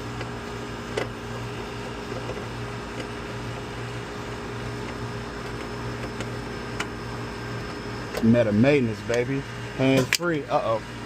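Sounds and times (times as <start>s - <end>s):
air conditioning units humming: 0.0s - 11.0s.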